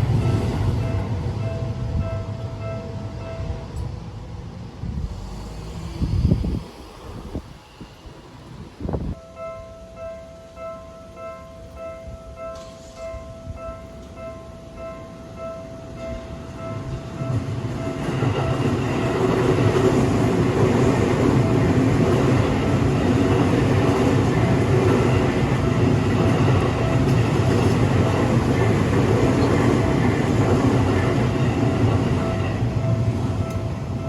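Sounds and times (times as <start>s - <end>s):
train passing with rumble: 0.0s - 34.0s.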